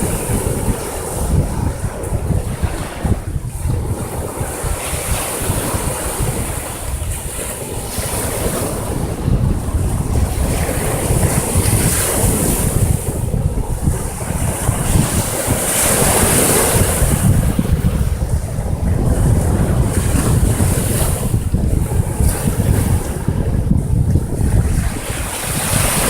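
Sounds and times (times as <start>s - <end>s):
sea waves washing onto shore: 0.0s - 26.0s
wind buffeting microphone: 0.0s - 26.0s.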